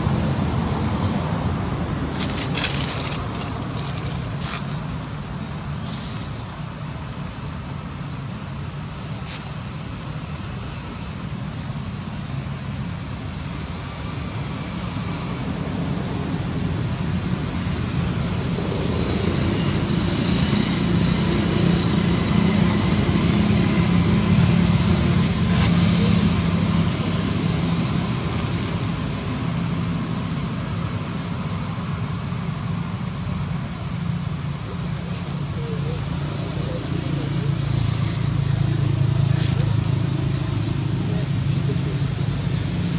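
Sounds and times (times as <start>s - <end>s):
vehicle engine hum passing: 0.0s - 42.9s.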